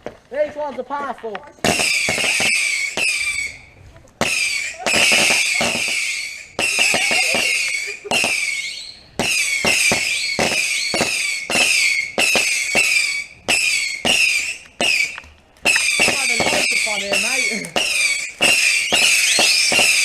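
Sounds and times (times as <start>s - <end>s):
fireworks bangs: 1.6s - 20.0s
fireworks hissing crackle: 1.6s - 20.0s.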